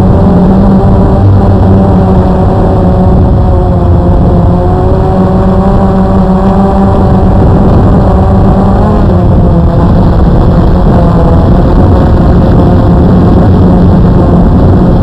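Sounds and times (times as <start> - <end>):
quadcopter motors whining: 0.0 - 15.0
wind rumble: 0.0 - 15.0.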